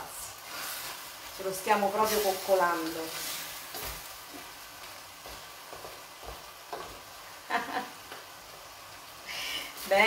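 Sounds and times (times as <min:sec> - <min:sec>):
meat sizzling in a pot: 0:00.0 - 0:10.0.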